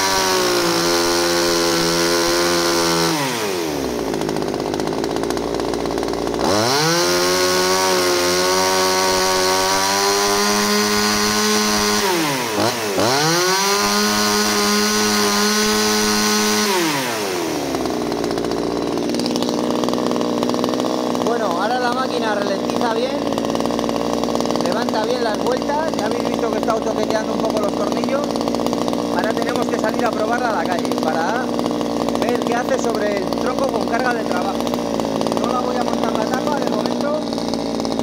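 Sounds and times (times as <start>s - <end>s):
chainsaw engine revving: 0.0s - 38.0s.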